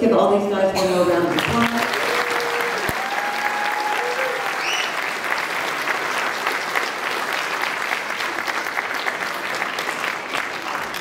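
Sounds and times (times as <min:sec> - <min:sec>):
audience applause: 0:01.3 - 0:11.0.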